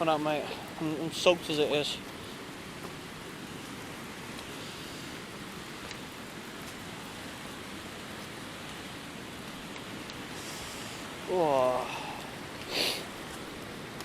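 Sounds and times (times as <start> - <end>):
falling water hissing: 0.0 - 14.0.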